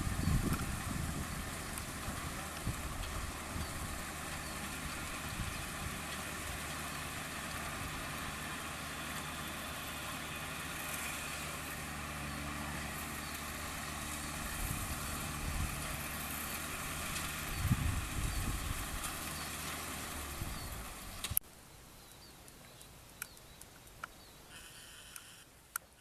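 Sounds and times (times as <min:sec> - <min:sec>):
combine harvester engine running: 0:00.0 - 0:21.4.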